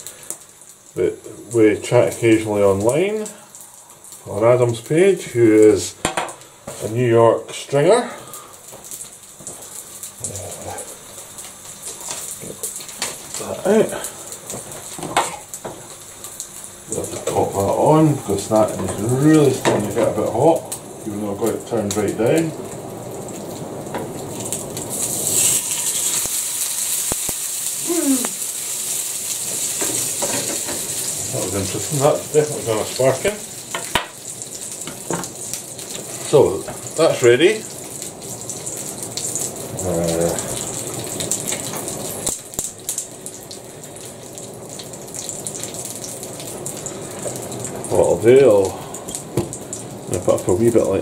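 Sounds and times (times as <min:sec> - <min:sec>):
food sizzling in a hot pan: 0:00.0 - 0:51.0.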